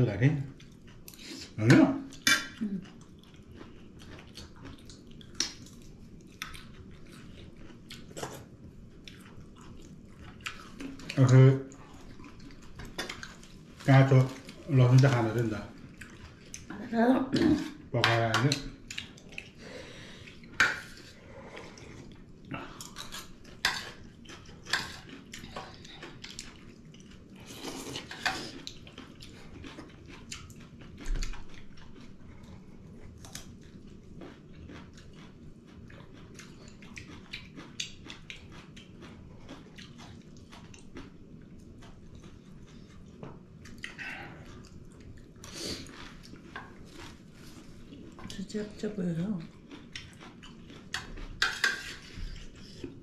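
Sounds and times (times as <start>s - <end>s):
chewing: 0.5s - 53.0s.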